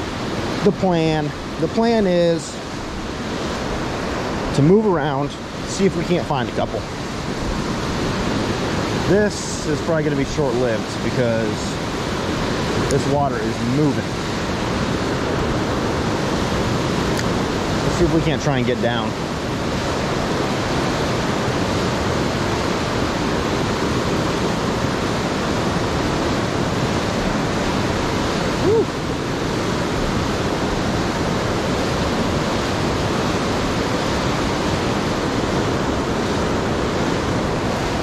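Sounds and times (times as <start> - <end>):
fast river water rushing: 0.0 - 38.0.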